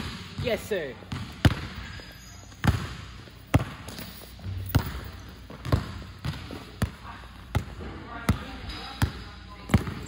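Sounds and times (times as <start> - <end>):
basketball bouncing on hard court: 0.0 - 10.0.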